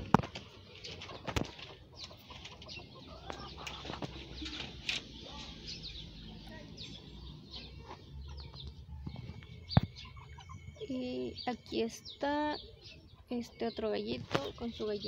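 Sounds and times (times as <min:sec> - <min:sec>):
chickens clucking and chirping: 0:00.0 - 0:15.0.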